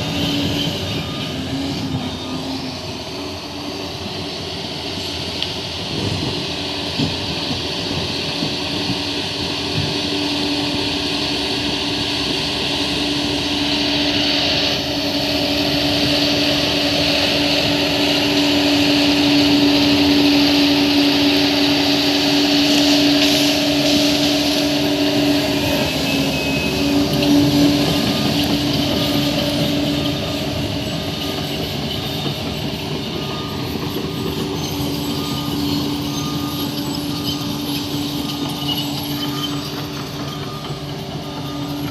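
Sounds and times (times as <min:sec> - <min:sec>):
bulldozer engine running: 0:00.0 - 0:41.9.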